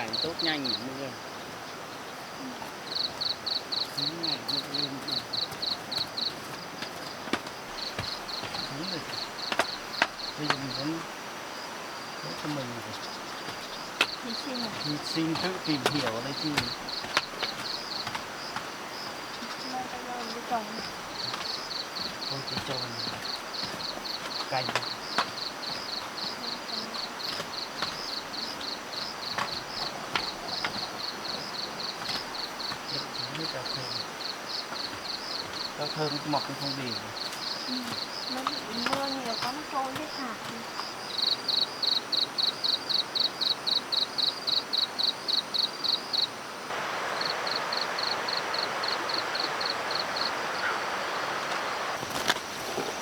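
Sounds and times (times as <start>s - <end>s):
insects chirping: 0.0s - 53.0s
steady rushing hiss: 0.0s - 53.0s.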